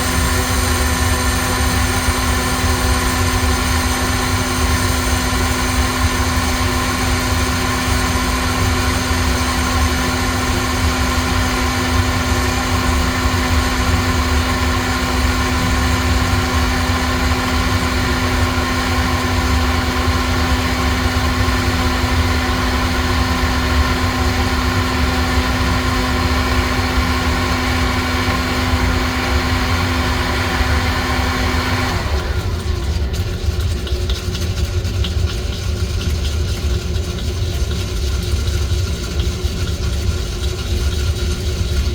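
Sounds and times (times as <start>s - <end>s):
coffee roaster motor running: 0.0s - 41.9s.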